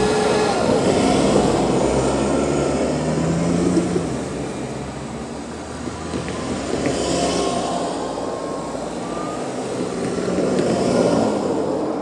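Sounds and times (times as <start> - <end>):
small cars driving past: 0.0 - 12.0.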